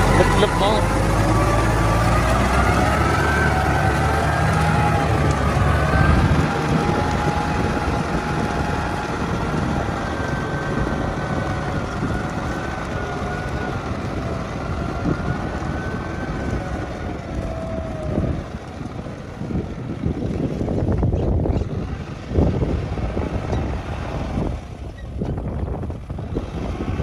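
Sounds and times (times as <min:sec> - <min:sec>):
heavy low rumble: 0:00.0 - 0:27.0
tiller churning mud: 0:00.0 - 0:27.0
tractor diesel engine under load: 0:00.0 - 0:27.0.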